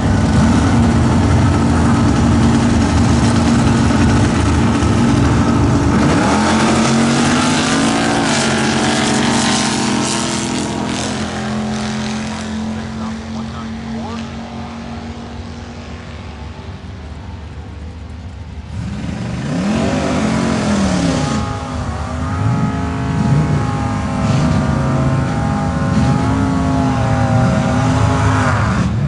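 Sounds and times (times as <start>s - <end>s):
racing car engines revving: 0.0s - 29.0s
steady engine drone: 0.0s - 29.0s.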